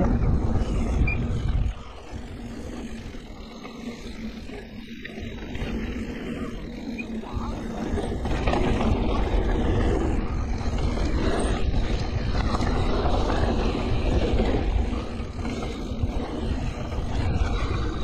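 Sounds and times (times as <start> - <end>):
bike tyres rumbling and rattling: 0.0 - 18.0
wind buffeting microphone: 0.0 - 18.0.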